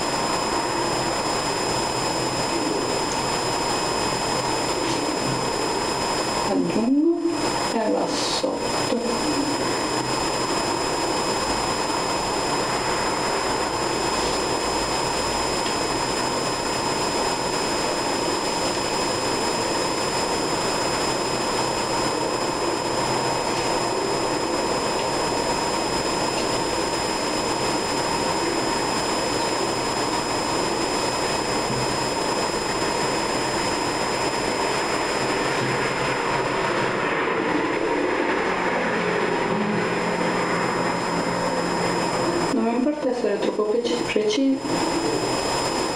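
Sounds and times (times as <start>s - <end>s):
steady rushing noise: 0.0s - 45.9s
thin high whine: 0.0s - 45.9s.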